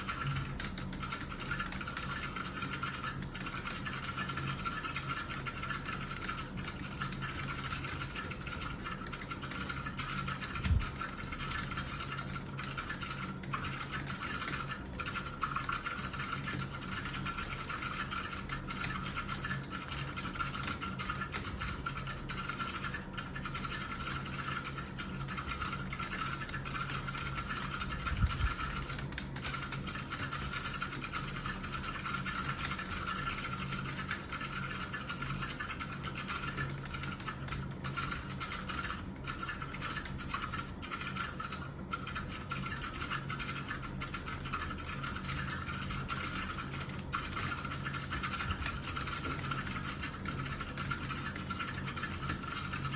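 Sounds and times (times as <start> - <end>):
fast typing on keyboard: 0.0 - 52.9.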